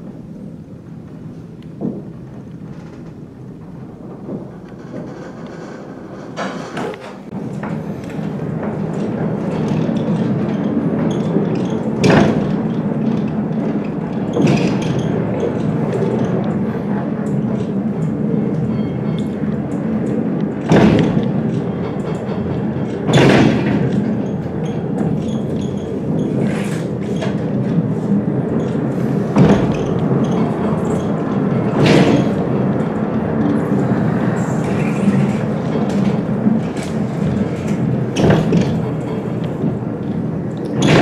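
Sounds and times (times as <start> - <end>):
funicular car rumbling on track: 0.0 - 41.0
sharp clunks of railway car: 1.7 - 27.9, 28.6 - 33.5, 34.6 - 41.0.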